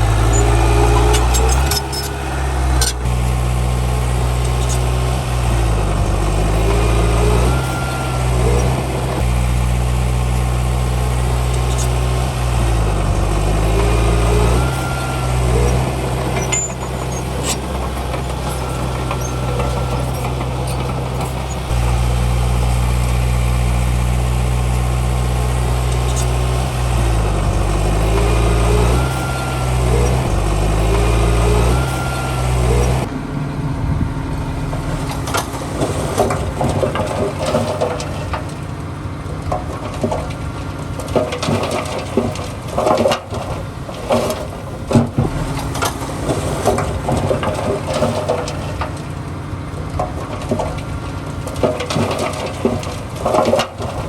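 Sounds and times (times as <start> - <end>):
bulldozer diesel engine running: 0.0 - 54.0
high engine whine: 0.0 - 54.0.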